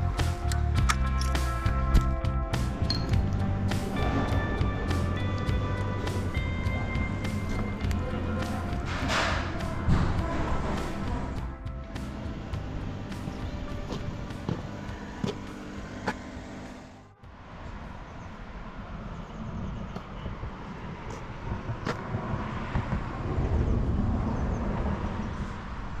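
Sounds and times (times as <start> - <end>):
low vehicle rumble: 0.0 - 26.0
vehicle hum: 0.0 - 26.0.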